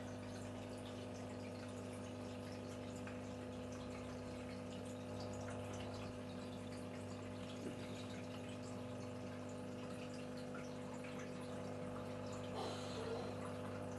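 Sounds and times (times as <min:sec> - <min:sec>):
aquarium equipment humming: 0:00.0 - 0:13.9
water dripping and trickling: 0:00.0 - 0:13.9.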